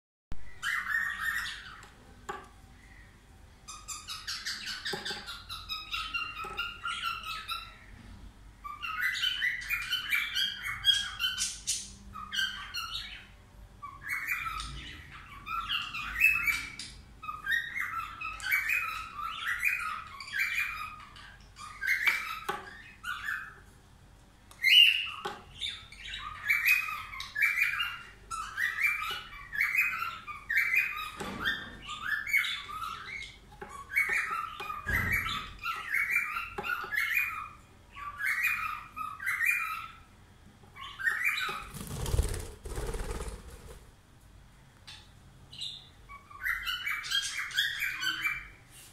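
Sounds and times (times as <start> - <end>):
budgerigar chirping and squawking: 0.5 - 1.9, 3.6 - 7.9, 8.6 - 23.7, 24.6 - 40.1, 40.7 - 43.8, 44.9 - 48.6.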